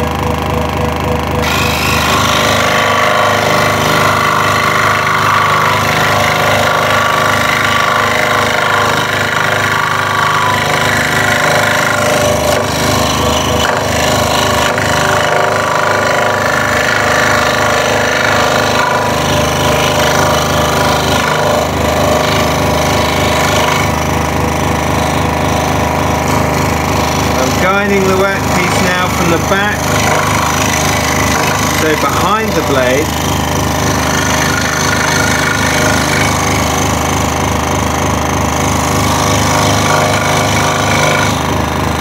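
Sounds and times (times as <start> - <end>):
scroll saw cutting wood: 0.0 - 42.0.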